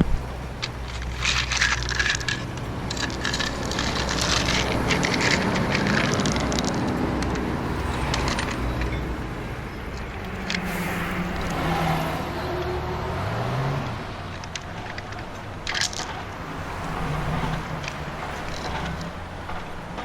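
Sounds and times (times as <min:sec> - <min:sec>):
stones clattering on plastic toys: 0:00.0 - 0:12.8, 0:14.0 - 0:20.0.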